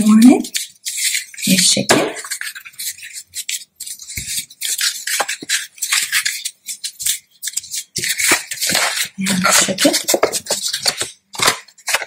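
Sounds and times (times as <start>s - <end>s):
paper rustling and creasing: 0.0s - 12.0s.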